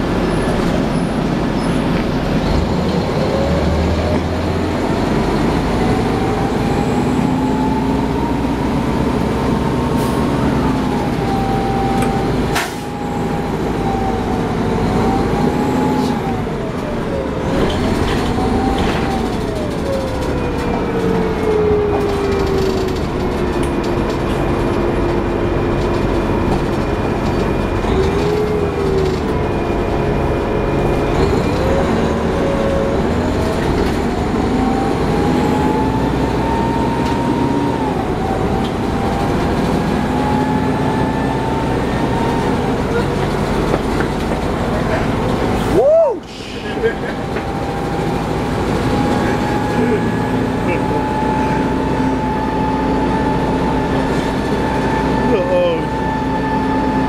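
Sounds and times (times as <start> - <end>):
bus diesel engine running: 0.0 - 57.0
drivetrain whine: 0.0 - 57.0
road rumble: 0.0 - 57.0.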